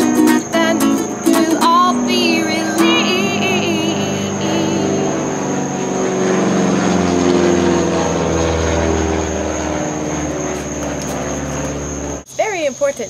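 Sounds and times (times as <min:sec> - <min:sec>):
propeller airplane engine drone: 0:00.0 - 0:12.3.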